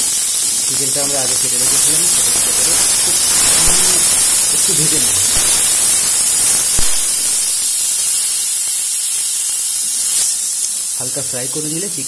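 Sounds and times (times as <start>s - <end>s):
chicken sizzling in a wok: 0.0s - 12.0s.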